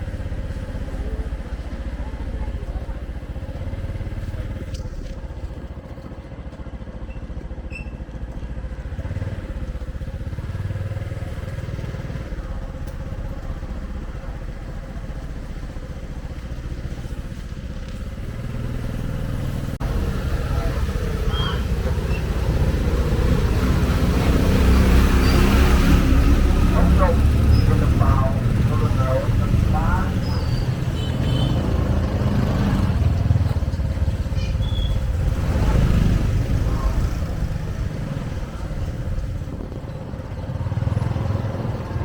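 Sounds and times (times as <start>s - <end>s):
motorcycle engines running: 0.0s - 42.0s
road traffic: 0.0s - 42.0s.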